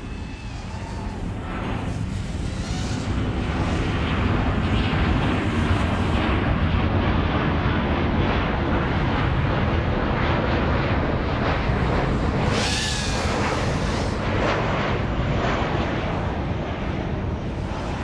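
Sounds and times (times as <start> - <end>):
quadcopter motors and wind rush: 0.0 - 18.0.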